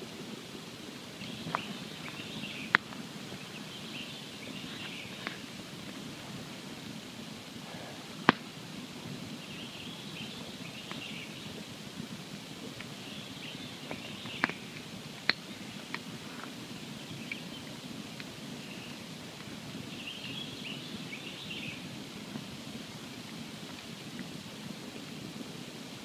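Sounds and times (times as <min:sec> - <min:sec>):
campfire hissing and popping: 0:00.0 - 0:26.0.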